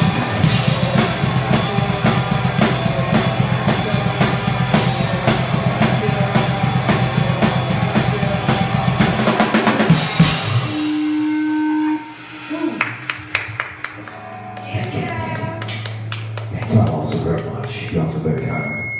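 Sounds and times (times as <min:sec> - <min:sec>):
drum kit beat: 0:00.0 - 0:18.6
rock band playing: 0:00.0 - 0:18.9.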